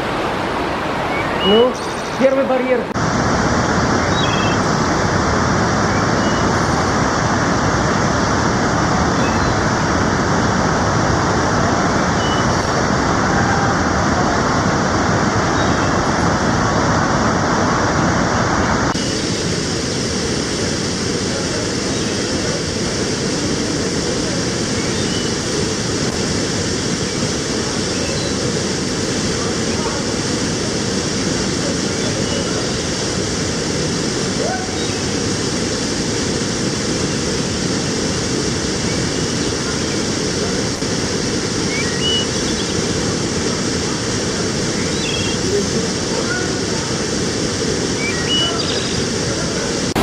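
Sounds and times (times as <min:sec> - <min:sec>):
waterfall and stream rushing: 0:00.0 - 0:50.0.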